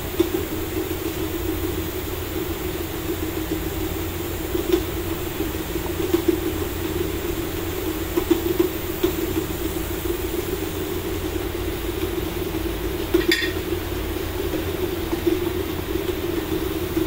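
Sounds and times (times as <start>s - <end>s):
workshop machinery drone: 0.0s - 17.0s.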